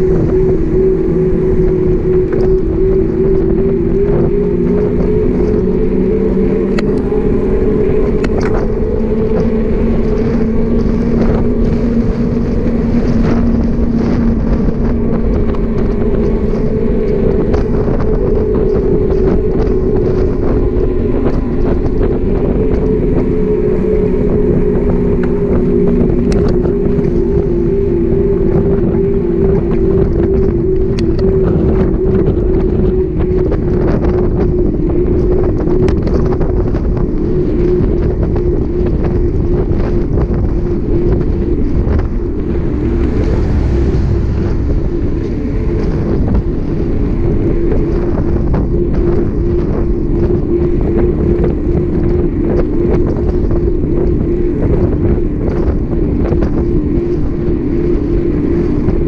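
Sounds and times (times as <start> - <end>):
tyres humming on asphalt: 0.0 - 59.0
wind rushing over microphone: 0.0 - 59.0.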